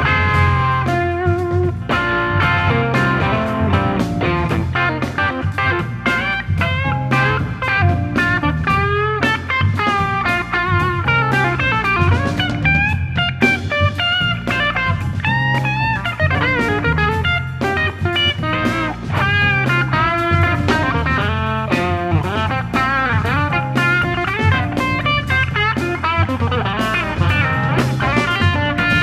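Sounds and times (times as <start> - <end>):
electric guitar melody: 0.0 - 29.0
live band playing: 0.0 - 29.0.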